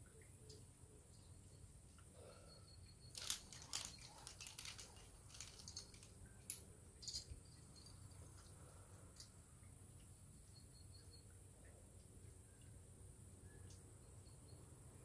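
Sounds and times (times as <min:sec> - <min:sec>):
faint clicks and rustles of rope: 0:00.0 - 0:14.0.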